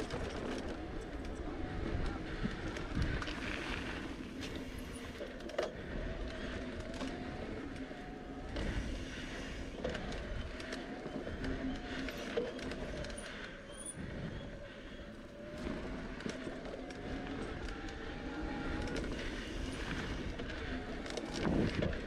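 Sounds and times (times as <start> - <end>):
bike clicks and rattles: 0.0 - 22.0
bike tyres on dirt trail: 0.0 - 22.0
faint wavering hum: 0.0 - 22.0.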